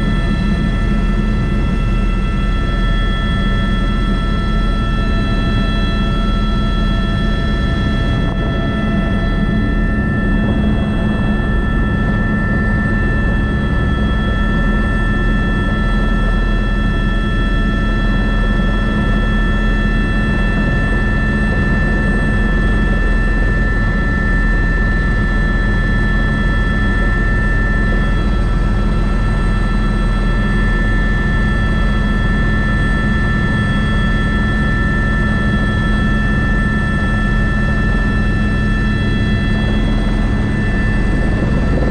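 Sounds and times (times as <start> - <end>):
helicopter engine and rotor drone: 0.0 - 41.9
high turbine whine: 0.0 - 41.9.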